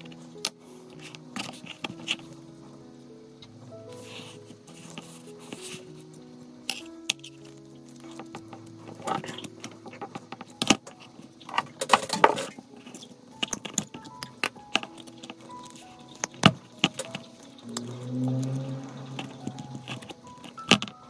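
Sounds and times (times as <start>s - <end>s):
soft background music: 0.0s - 21.0s.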